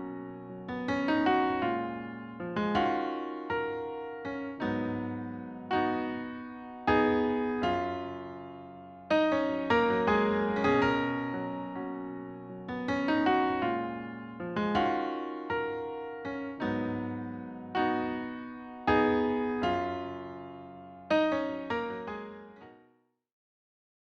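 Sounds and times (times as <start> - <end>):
electric piano playing slow chords: 0.0 - 22.8.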